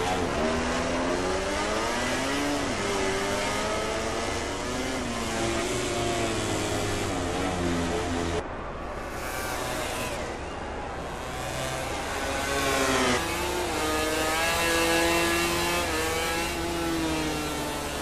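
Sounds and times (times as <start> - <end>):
racing motorcycle engines revving: 0.0 - 8.4, 9.1 - 18.0.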